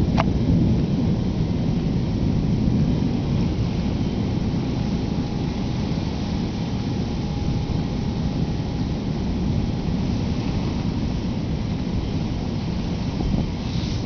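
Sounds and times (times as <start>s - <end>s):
wind gusting across microphone: 0.0s - 14.0s.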